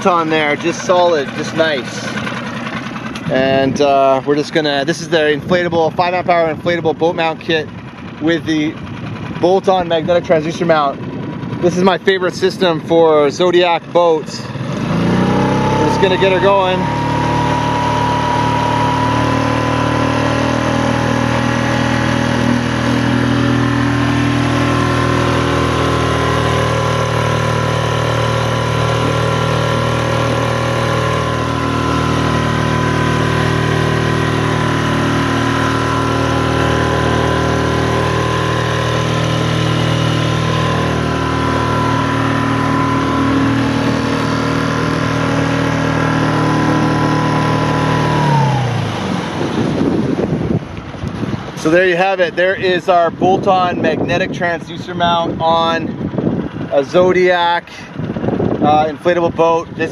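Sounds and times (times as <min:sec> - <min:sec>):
outboard motor running steadily: 0:00.0 - 0:59.9.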